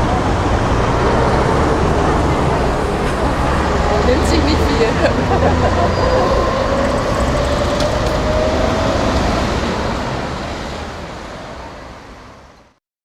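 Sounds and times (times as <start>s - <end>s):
car passing close: 0.0s - 12.3s
street traffic: 0.0s - 12.8s.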